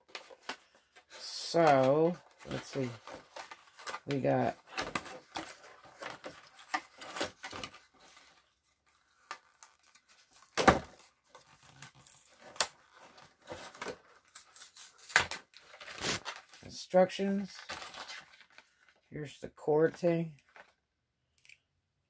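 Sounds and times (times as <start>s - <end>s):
packaging rustling and scraping: 0.0s - 16.7s, 17.4s - 19.0s.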